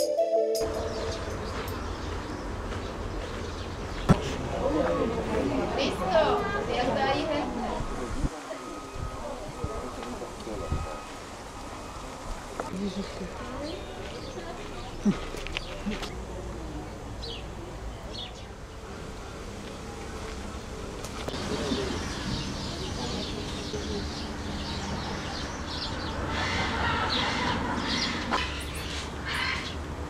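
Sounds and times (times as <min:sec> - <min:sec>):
birds chirping: 0:00.6 - 0:30.0.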